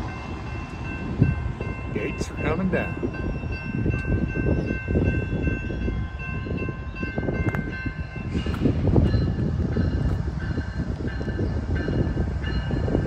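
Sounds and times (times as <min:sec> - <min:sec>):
crossing warning bell ringing: 0:00.0 - 0:13.0
freight train rumble: 0:00.0 - 0:13.0.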